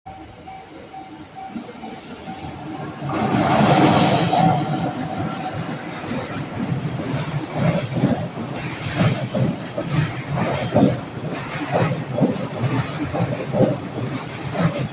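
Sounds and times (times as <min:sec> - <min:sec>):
freight train wagons rumbling: 0:00.1 - 0:14.9.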